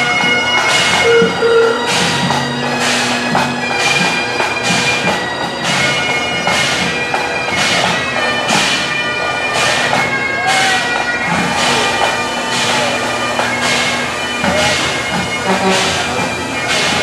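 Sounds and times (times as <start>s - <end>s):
bagpipes playing: 0.0s - 17.0s
noisy rhythmic strokes: 0.0s - 17.0s.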